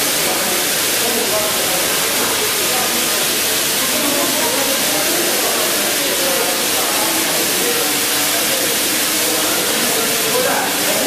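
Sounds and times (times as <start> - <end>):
crowd chatter: 0.0 - 11.0
industrial machinery hissing: 0.0 - 11.0.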